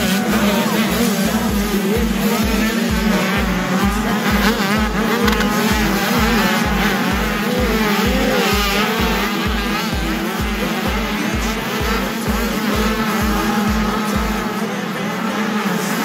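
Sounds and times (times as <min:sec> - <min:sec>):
music with thumping beat: 0:00.0 - 0:14.6
motocross bike engines revving: 0:00.0 - 0:16.0.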